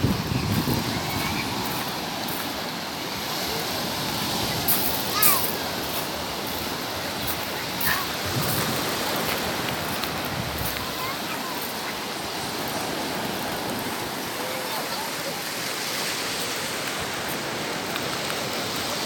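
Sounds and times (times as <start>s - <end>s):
sea surf washing ashore: 0.0s - 19.0s
wave splash: 0.0s - 19.0s.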